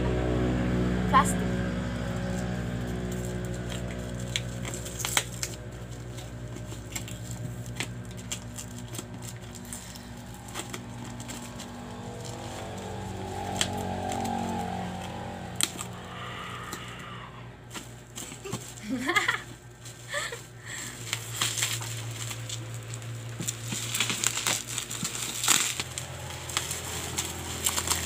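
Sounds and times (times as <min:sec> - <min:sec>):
bubble wrap crinkling and popping: 0:02.1 - 0:17.0, 0:17.7 - 0:28.0.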